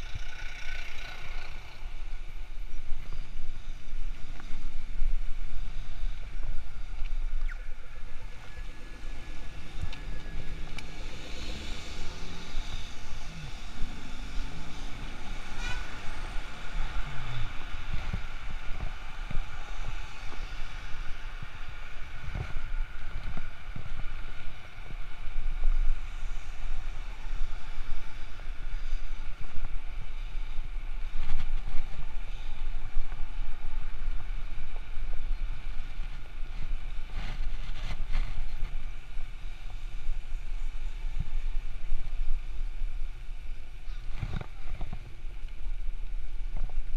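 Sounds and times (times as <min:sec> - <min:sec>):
road traffic: 0:00.0 - 0:46.9
wind rumble on microphone: 0:00.0 - 0:46.9.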